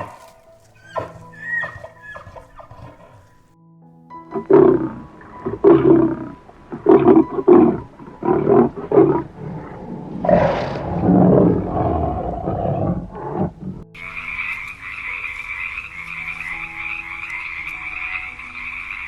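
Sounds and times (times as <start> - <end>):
animal calling loudly: 0.0 - 3.4, 4.3 - 19.0
background music: 0.0 - 19.0.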